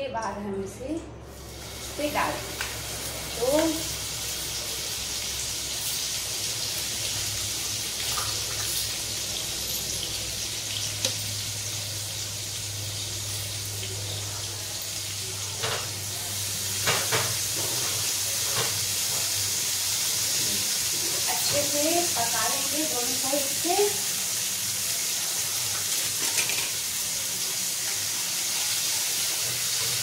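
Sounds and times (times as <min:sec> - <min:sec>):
bread sizzling in hot oil: 0:01.3 - 0:30.0.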